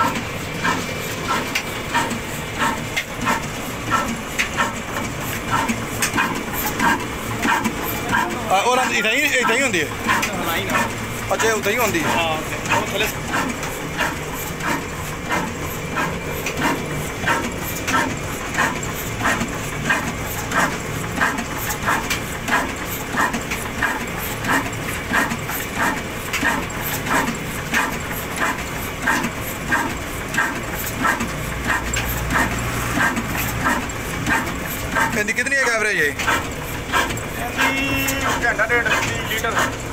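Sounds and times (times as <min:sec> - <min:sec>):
diesel engine exhaust thumps: 0:00.0 - 0:39.9.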